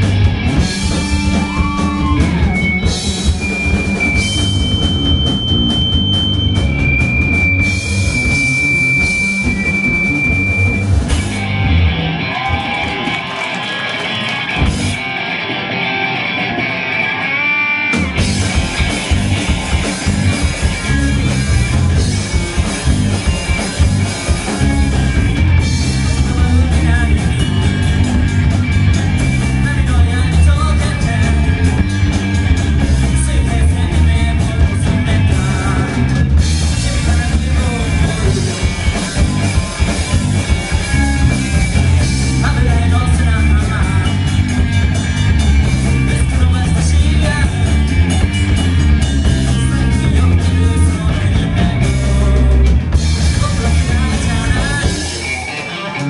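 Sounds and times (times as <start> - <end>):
drum kit: 0.0 - 16.4, 17.9 - 56.0
electric bass: 0.0 - 56.0
electric guitar: 0.0 - 56.0
rock band playing live: 0.0 - 56.0.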